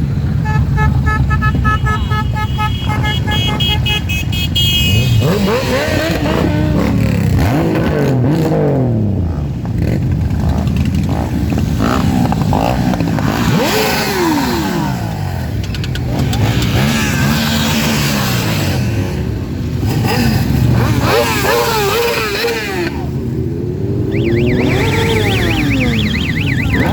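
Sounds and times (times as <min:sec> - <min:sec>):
motorcycles riding past revving: 0:03.4 - 0:26.9.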